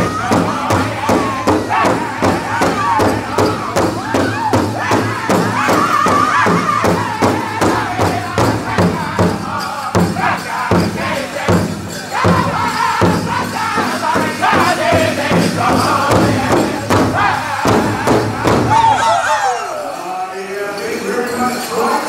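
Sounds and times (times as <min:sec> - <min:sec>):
powwow drum beating: 0:00.0 - 0:19.6
group singing: 0:00.0 - 0:22.0.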